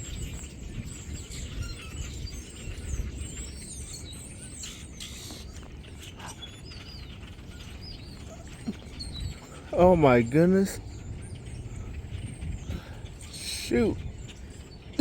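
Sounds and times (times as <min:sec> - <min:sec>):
flock of birds chirping: 0:00.0 - 0:15.0
wind buffeting microphone: 0:00.0 - 0:15.0.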